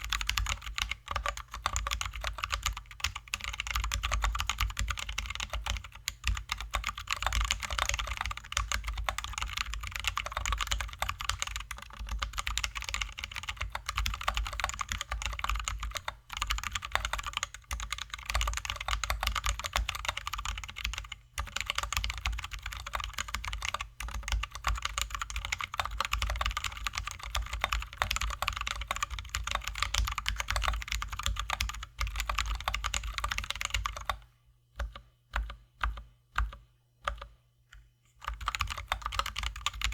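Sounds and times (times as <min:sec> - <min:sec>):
fast mechanical keyboard typing: 0:00.0 - 0:34.2, 0:38.2 - 0:39.9.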